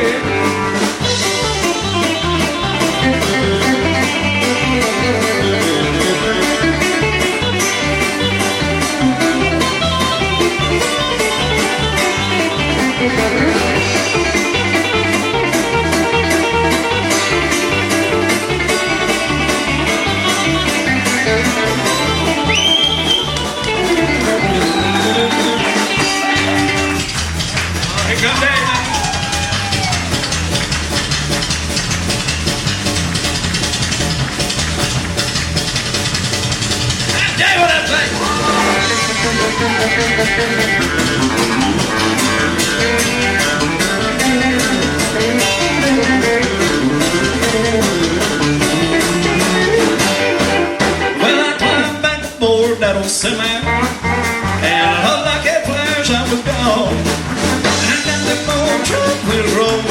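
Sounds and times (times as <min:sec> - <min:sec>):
electric guitar lead: 0:00.0 - 0:52.4, 0:53.3 - 0:55.4
bass line: 0:00.0 - 0:59.9
country band playing: 0:00.0 - 0:59.9
drum beat: 0:00.0 - 0:59.9.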